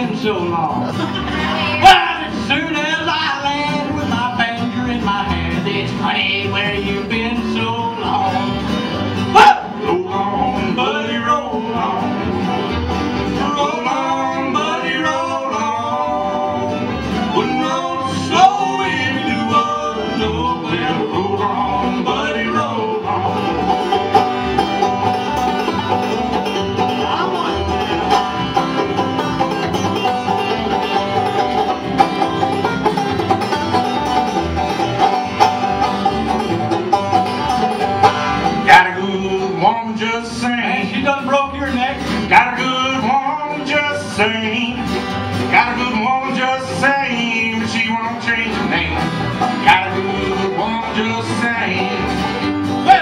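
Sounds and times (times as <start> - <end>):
bluegrass band playing: 0.0 - 53.0.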